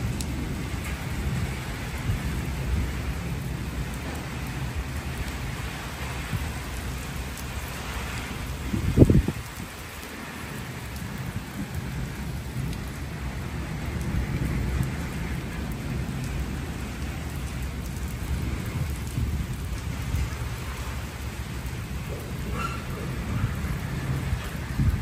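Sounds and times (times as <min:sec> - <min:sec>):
distant thunder rumble: 0:00.0 - 0:25.0
rain on concrete: 0:00.0 - 0:25.0.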